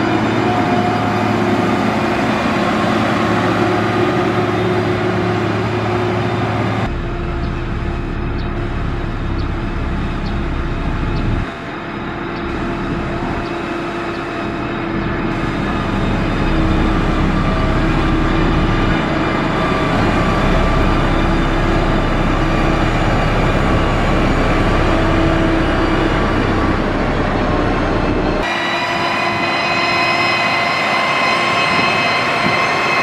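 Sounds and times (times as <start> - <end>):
diesel engine running under load: 0.0 - 30.2.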